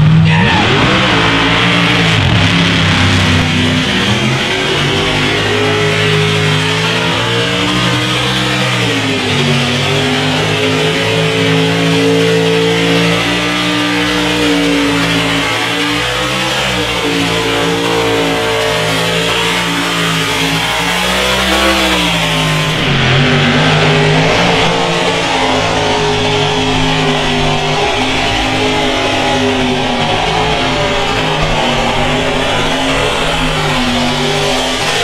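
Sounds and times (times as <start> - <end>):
rock music with electric guitar: 0.0 - 35.0
truck engines revving hard: 0.0 - 35.0.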